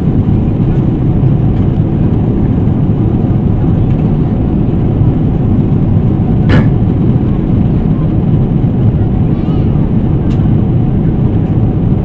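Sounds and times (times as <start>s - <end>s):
airplane cabin airflow and engines: 0.0s - 12.0s.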